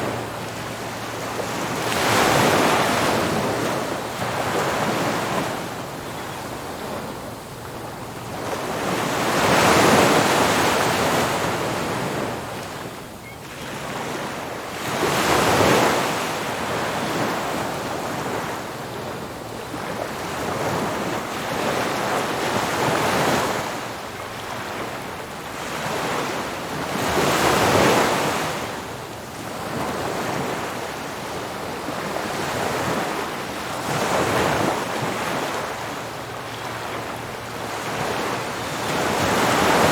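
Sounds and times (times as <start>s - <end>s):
ocean surf breaking on beach: 0.0s - 12.8s, 13.6s - 39.9s.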